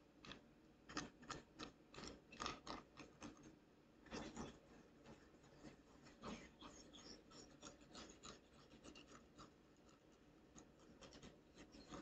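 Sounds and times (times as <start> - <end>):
toothpick scratching through paint: 0.9 - 12.0.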